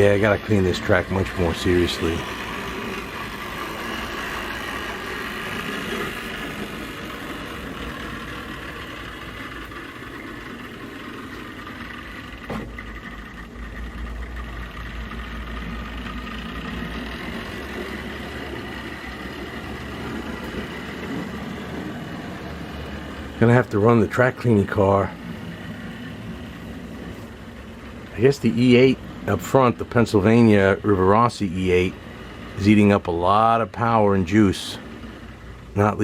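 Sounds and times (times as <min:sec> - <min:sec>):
diesel engine sound effect: 0:00.0 - 0:36.0
model train motors and wheels rumbling: 0:00.0 - 0:36.0.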